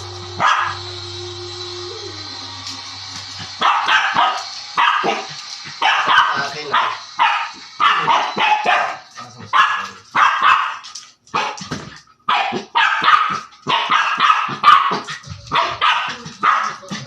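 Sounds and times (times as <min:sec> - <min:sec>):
dog barking: 0:00.4 - 0:00.9, 0:03.4 - 0:17.0.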